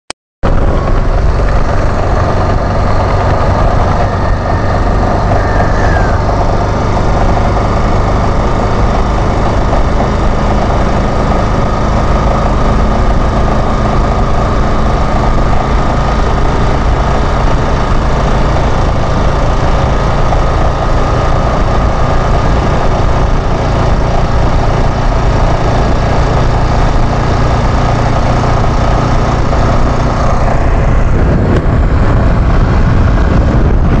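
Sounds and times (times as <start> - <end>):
motorcycle engine at high revs: 0.4 - 34.0
wind rush on microphone: 0.4 - 34.0.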